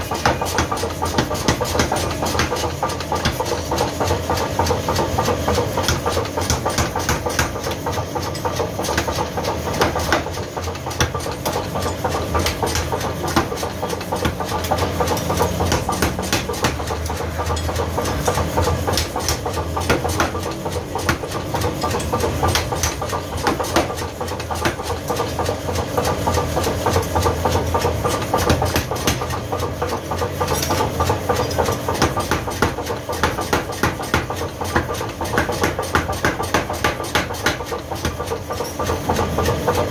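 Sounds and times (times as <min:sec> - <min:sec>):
power hammer striking steel: 0:00.0 - 0:39.9.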